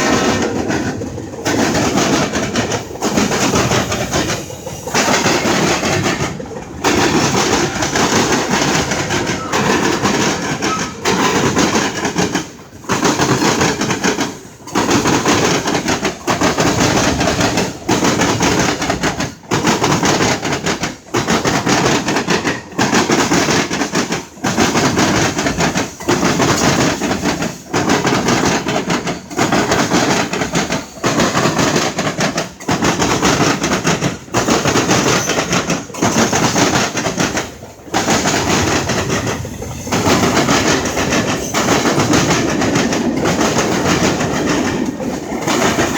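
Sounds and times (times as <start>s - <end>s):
train cars rolling past: 0.0s - 45.9s.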